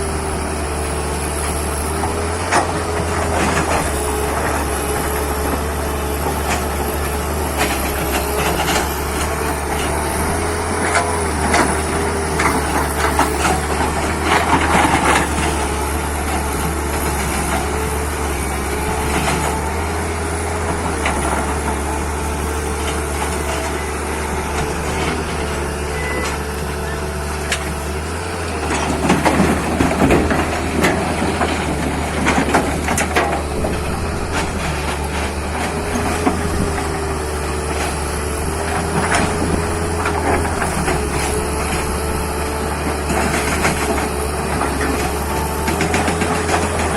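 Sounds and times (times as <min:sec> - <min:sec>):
excavator diesel engine: 0:00.0 - 0:46.9
hydraulic whine: 0:00.0 - 0:46.9.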